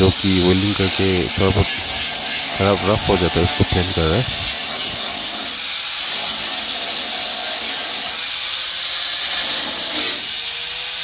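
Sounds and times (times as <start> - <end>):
angle grinder grinding metal: 0.0 - 11.0.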